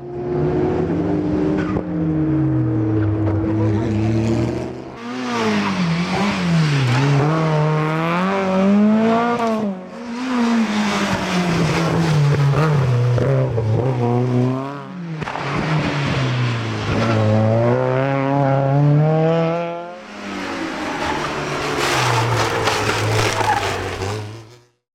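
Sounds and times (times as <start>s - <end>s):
racing car engines at full throttle: 0.0s - 24.8s.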